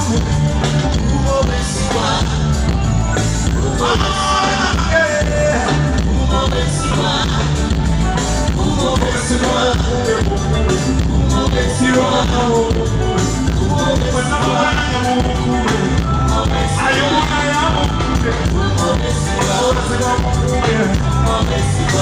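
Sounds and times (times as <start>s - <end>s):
person singing: 0.0s - 7.8s, 8.5s - 22.0s
band music with bass beat: 0.0s - 22.0s.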